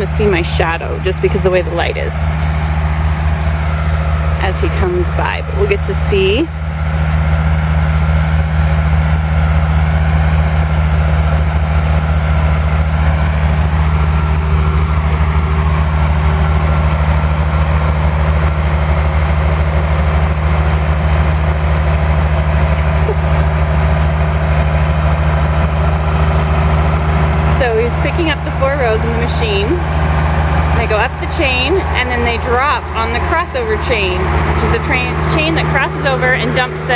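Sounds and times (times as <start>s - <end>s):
heavy diesel engine drone: 0.0s - 36.9s.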